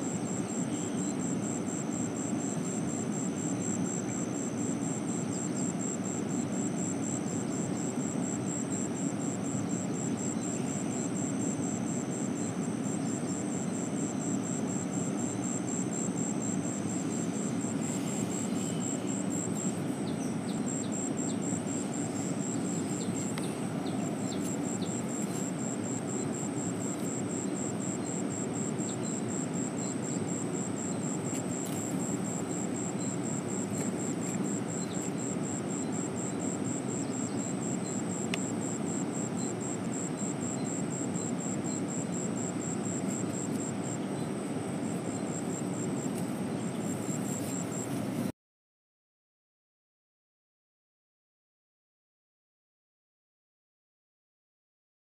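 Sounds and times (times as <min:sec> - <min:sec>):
insect trilling: 0:00.1 - 0:46.1.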